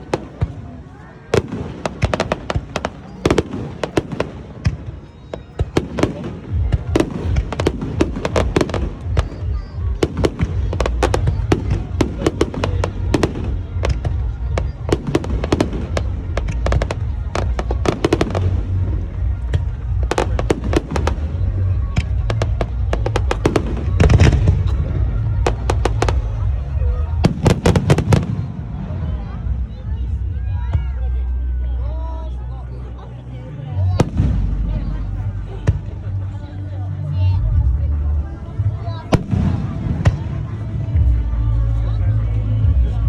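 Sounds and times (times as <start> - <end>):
fireworks bangs and crackles: 0.0 - 30.9, 33.9 - 36.4, 37.5 - 43.0.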